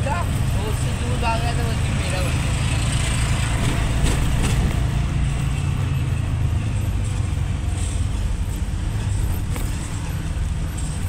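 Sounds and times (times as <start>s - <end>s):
auto-rickshaw engine running: 0.0s - 11.0s
road noise: 0.0s - 11.0s.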